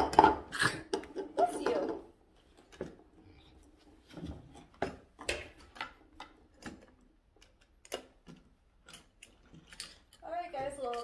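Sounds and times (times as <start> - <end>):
toys clicking and knocking: 0.0 - 3.1, 4.5 - 11.0.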